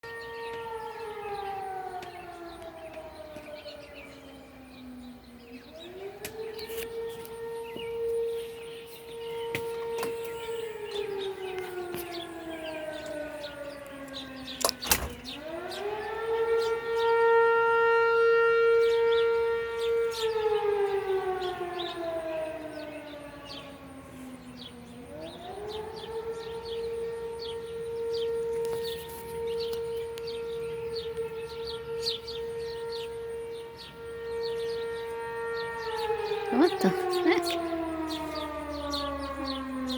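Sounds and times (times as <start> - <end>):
fire siren wailing: 0.0 - 39.9.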